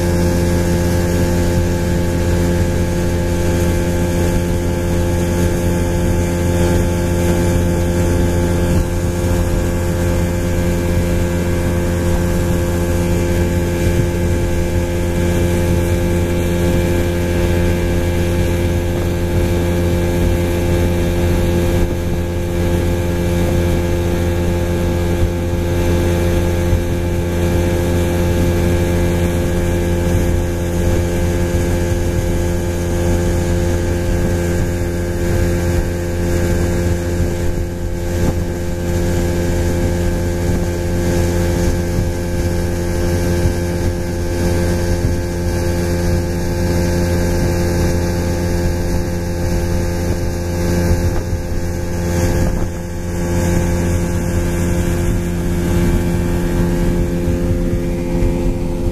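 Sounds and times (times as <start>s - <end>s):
outboard motor droning: 0.0s - 58.9s.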